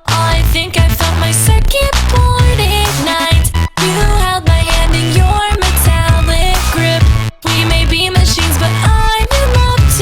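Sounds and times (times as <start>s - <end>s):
electronic pop music: 0.0s - 10.0s.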